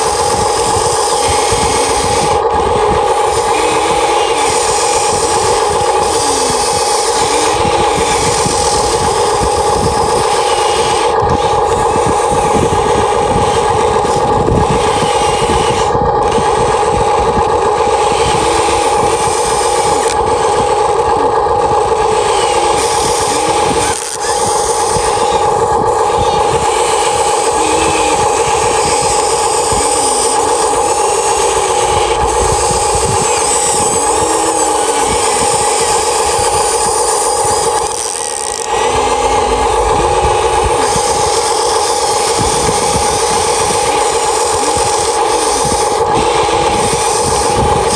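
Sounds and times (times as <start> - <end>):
toy excavator motors whining: 0.0 - 47.9.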